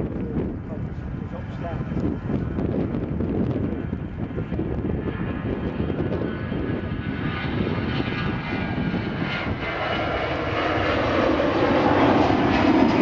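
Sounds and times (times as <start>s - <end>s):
jet engines at take-off thrust: 0.0s - 13.0s.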